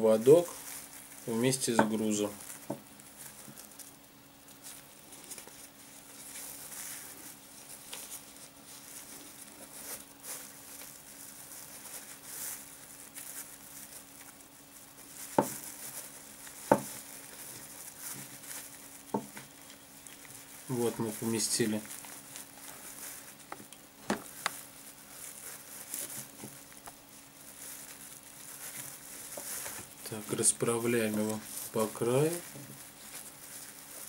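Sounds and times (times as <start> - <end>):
plastic bag crinkling: 0.0 - 34.0.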